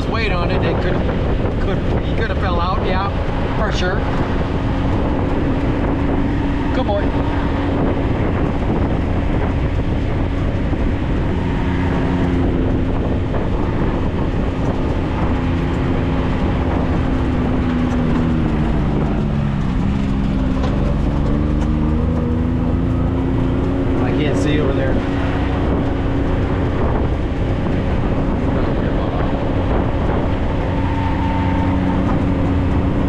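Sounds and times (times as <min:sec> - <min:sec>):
off-road vehicle engine running: 0:00.0 - 0:33.0.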